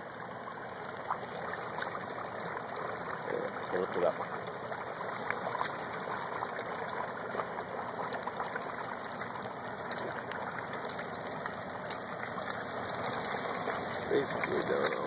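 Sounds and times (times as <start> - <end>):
hot oil bubbling and sizzling: 0.0 - 15.0.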